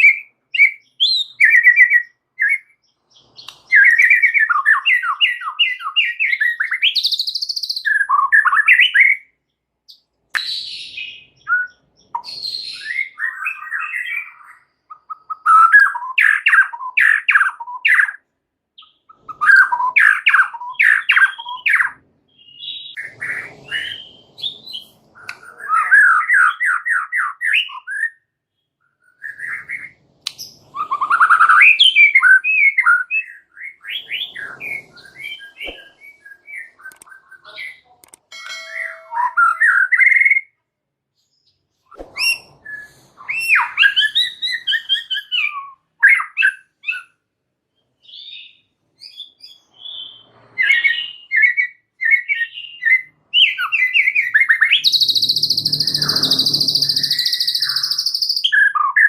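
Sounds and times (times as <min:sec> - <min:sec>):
songbird singing varied song: 0:00.0 - 0:18.2, 0:18.8 - 0:37.8, 0:41.2 - 0:47.2, 0:47.8 - 0:59.0.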